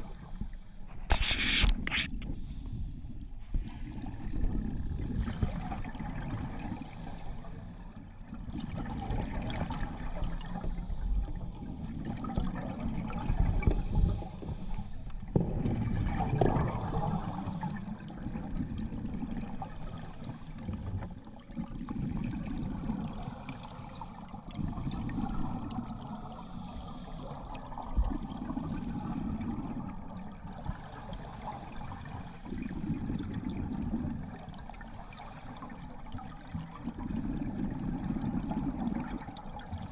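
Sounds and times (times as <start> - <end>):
underwater regulator bubbles gurgling: 3.6 - 39.9.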